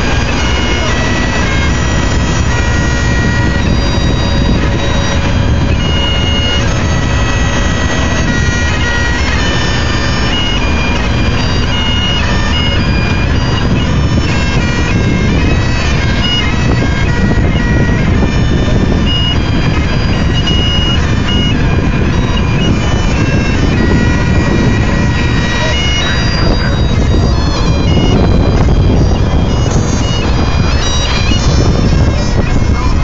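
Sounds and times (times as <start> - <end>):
bagpipes playing: 0.0 - 33.0
loud low rumble: 0.0 - 33.0.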